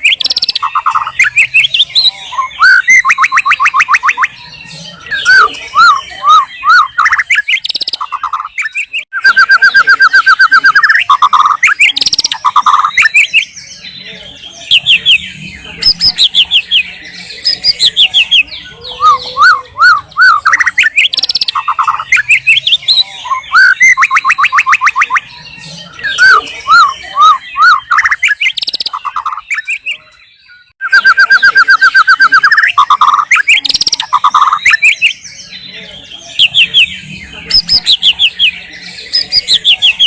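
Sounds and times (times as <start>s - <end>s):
bird singing whistles and trills: 0.0s - 40.0s.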